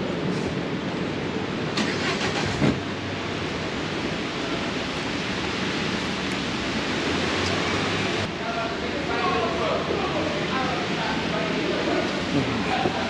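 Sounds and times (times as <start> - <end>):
traffic on wet streets: 0.0 - 13.0
rain hissing: 0.1 - 13.0.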